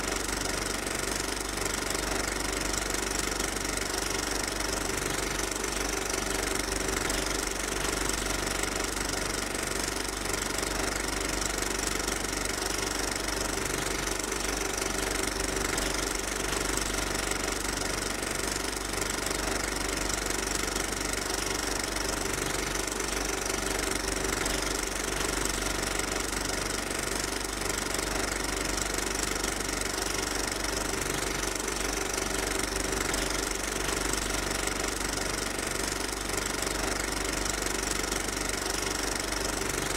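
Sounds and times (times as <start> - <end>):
steady machine drone: 0.0 - 39.9.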